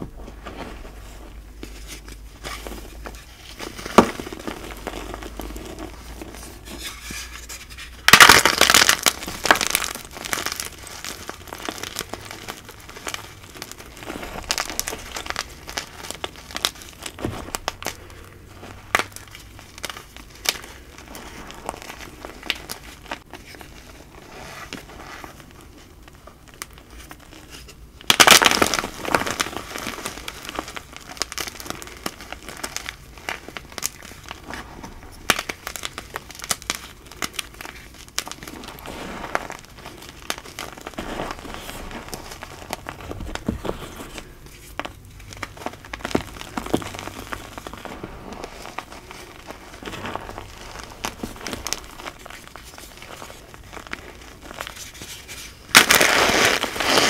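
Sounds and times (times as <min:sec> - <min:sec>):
hands crushing cornstarch chunks: 0:00.1 - 0:57.0.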